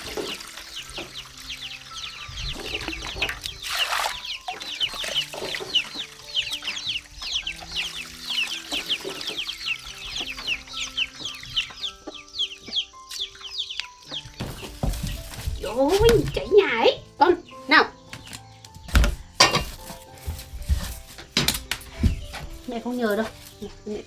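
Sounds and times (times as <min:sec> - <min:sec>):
chicks peeping: 0:00.0 - 0:24.0
soft background music: 0:00.0 - 0:24.0.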